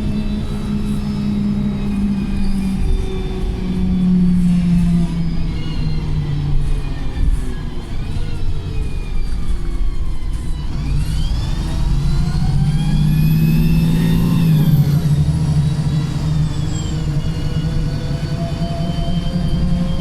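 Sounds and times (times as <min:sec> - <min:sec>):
bus engine droning: 0:00.0 - 0:20.0
gearbox whine: 0:00.0 - 0:20.0.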